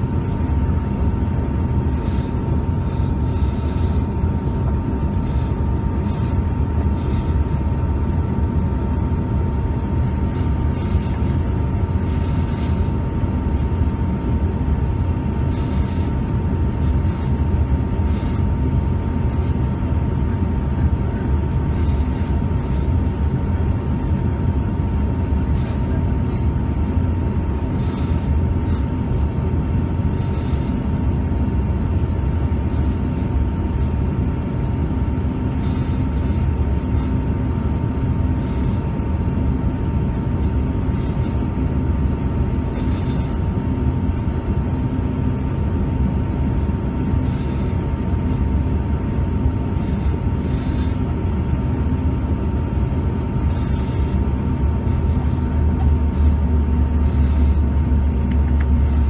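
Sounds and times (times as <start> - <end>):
jet cabin engine rumble: 0.0 - 59.0
thin steady whine: 0.0 - 59.0.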